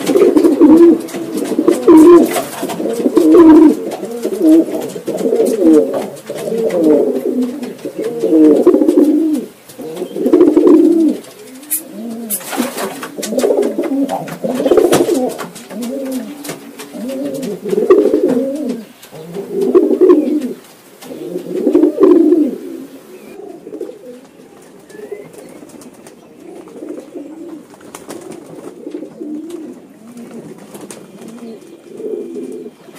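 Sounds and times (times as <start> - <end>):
wings fluttering: 0.0 - 22.8, 23.8 - 32.6
pigeons cooing: 0.0 - 32.9.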